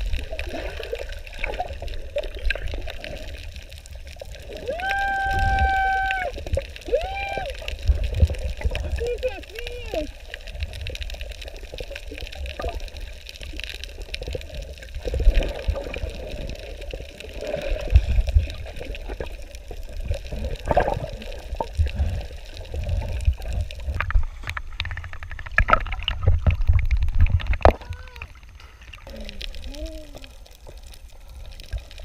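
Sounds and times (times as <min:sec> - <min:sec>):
water sloshing and gurgling: 0:00.0 - 0:32.0.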